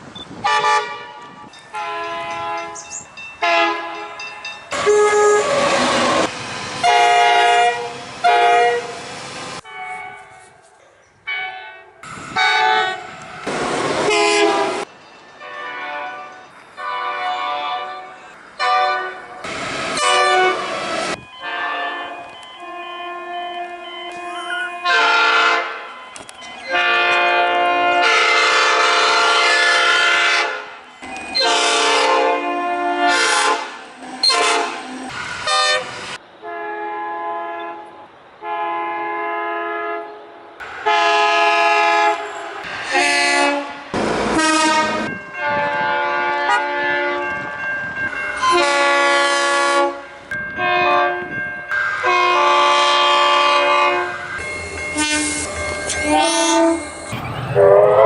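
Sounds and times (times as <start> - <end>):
train horn blasts: 0.4 - 2.8, 3.4 - 4.2, 4.8 - 9.0, 11.3 - 13.1, 14.0 - 14.9, 15.5 - 19.2, 19.9 - 20.8, 21.4 - 25.9, 26.7 - 30.8, 31.4 - 42.3, 42.9 - 47.4, 48.4 - 51.4, 52.0 - 54.3, 54.9 - 58.0.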